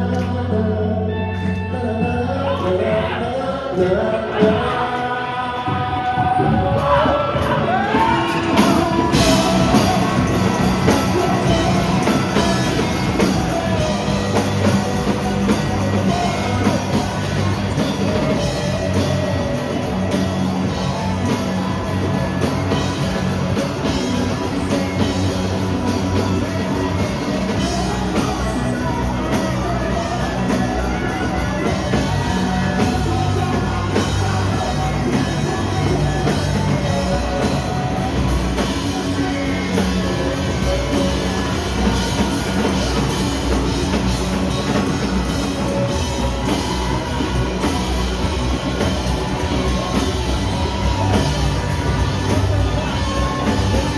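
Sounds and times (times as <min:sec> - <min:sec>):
drum kit: 0:00.0 - 0:53.9
electric guitar: 0:00.0 - 0:53.9
person singing: 0:00.0 - 0:53.9.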